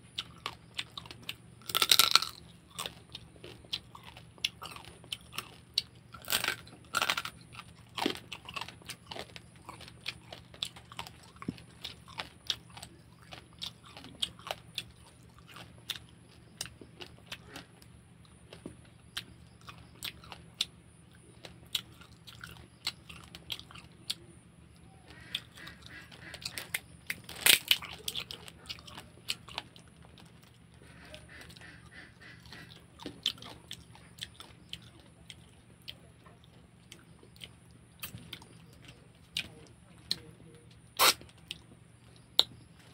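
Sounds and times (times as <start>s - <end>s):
chewing: 0.0s - 42.9s.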